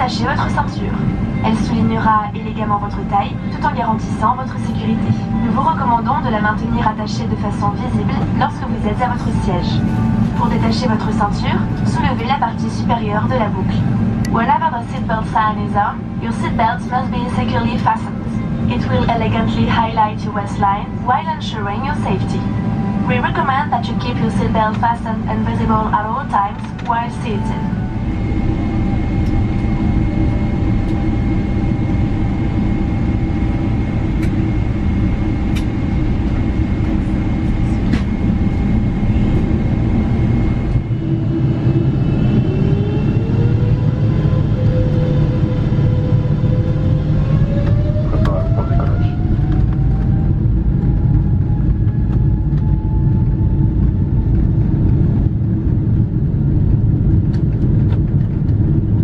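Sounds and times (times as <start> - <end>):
airliner cabin rumble: 0.0 - 59.0
jet engines whining: 0.0 - 59.0.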